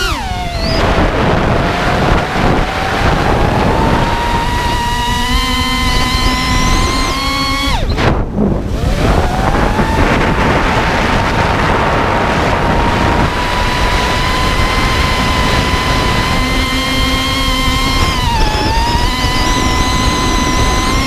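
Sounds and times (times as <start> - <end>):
quadcopter motor whine: 0.0 - 21.0
wind rush on microphone: 0.0 - 21.0.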